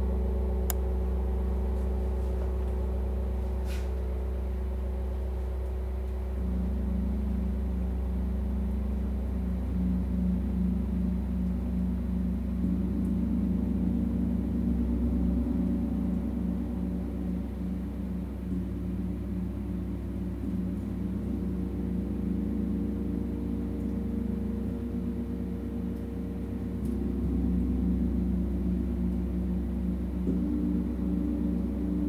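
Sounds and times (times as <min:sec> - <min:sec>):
low droning tones: 0:00.0 - 0:32.0.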